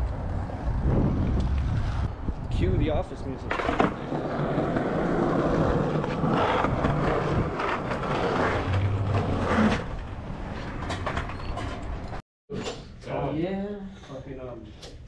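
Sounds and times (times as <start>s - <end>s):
skateboard wheels rolling on concrete: 0.0s - 12.2s
street noise: 0.0s - 12.2s.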